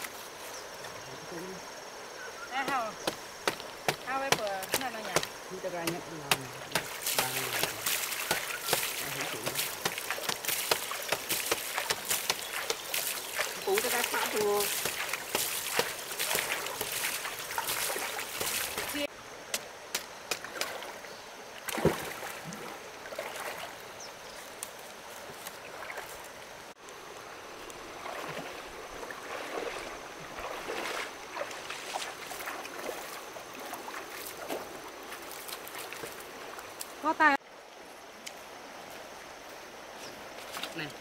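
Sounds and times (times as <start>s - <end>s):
flowing stream water: 0.0s - 41.0s.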